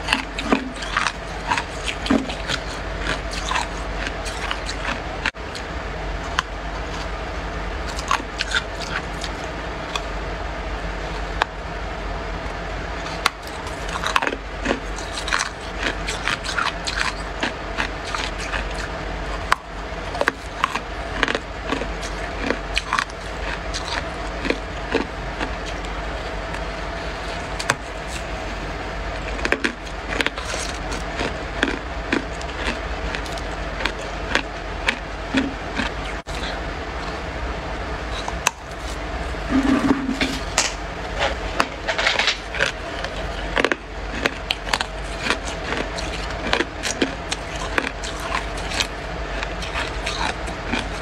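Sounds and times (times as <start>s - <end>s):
frost crunching while chewed: 0.0s - 7.2s, 7.8s - 10.2s, 12.9s - 37.3s, 37.9s - 51.0s
steady low hum: 0.0s - 51.0s.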